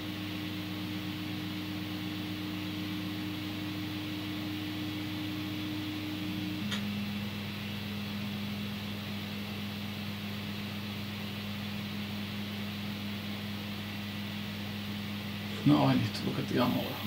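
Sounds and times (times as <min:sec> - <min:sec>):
computer fans humming: 0:00.0 - 0:17.0.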